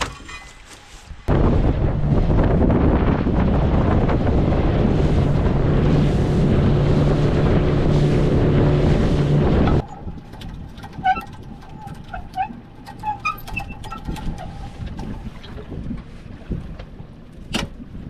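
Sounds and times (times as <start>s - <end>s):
wind rush on microphone: 1.0s - 18.0s
boat motor running: 1.3s - 18.0s.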